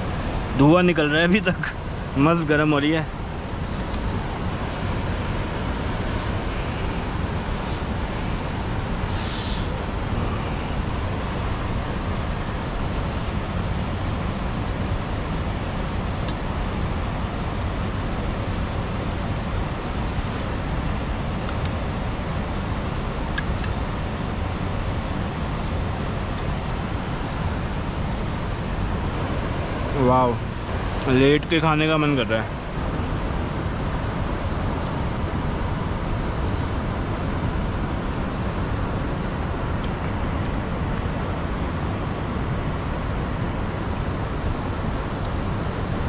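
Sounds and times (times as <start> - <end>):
fast river rushing: 0.0 - 46.0.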